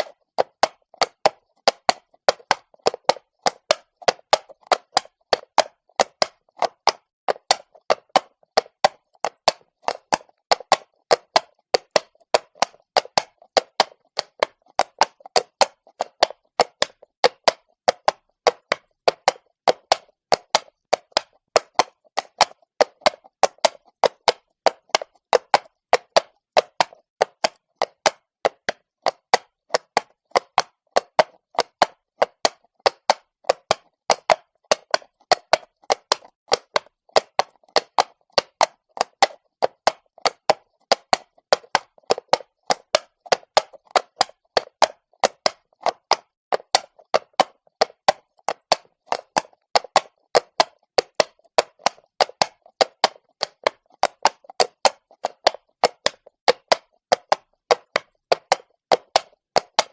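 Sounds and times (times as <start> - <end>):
horse hooves walking on stone: 0.0 - 59.9.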